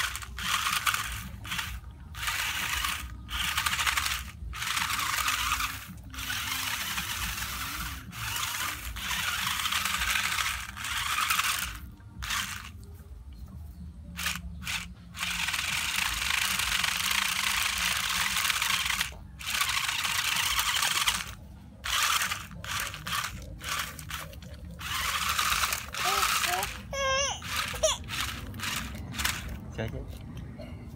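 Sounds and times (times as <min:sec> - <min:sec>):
toy car motors whirring: 0:00.0 - 0:12.9, 0:14.2 - 0:30.0.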